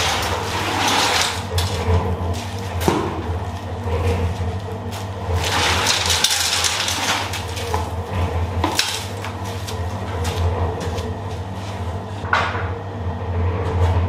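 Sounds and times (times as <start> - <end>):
concrete mixer motor hum: 0.0 - 14.0
wet concrete churning in drum: 0.0 - 14.0.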